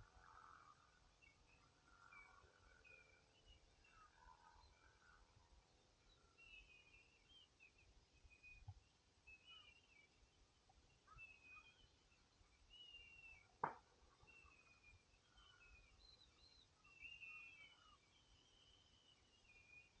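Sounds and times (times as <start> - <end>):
distant bird chirps: 0.0 - 20.0.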